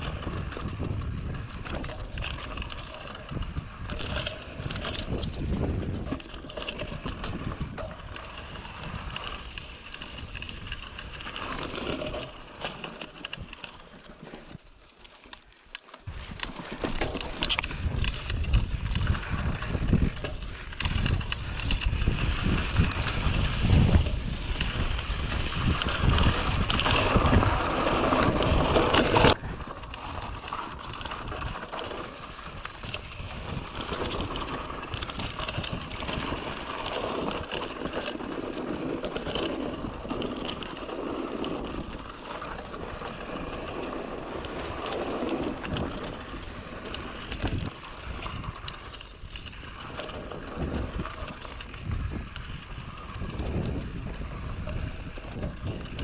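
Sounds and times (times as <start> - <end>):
wind rushing over microphone: 0.0 - 12.2, 17.5 - 56.0
bike tyres rattling over ground: 0.0 - 56.0.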